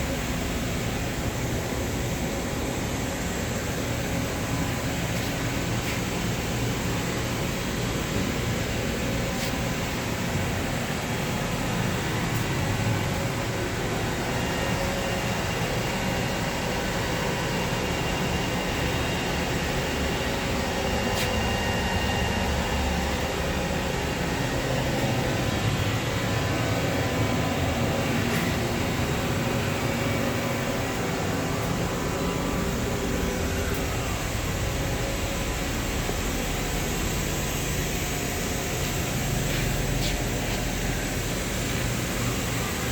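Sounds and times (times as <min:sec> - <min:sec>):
machinery hum: 0:00.0 - 0:42.9.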